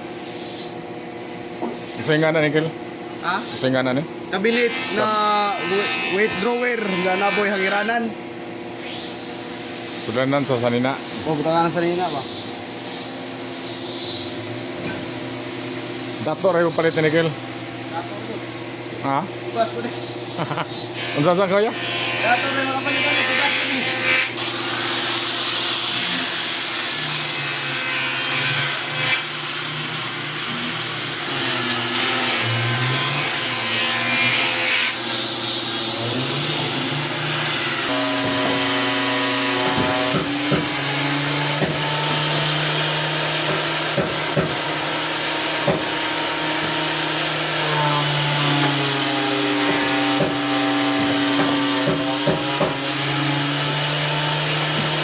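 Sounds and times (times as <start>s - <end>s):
power tool cutting wood: 1.6s - 8.1s, 8.7s - 55.0s.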